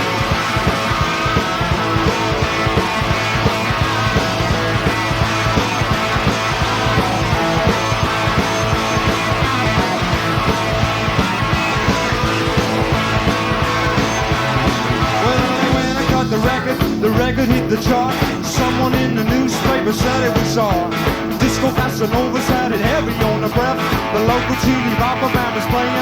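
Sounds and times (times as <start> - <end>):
bass guitar: 0.0 - 26.0
drums: 0.0 - 26.0
electric guitars: 0.0 - 26.0.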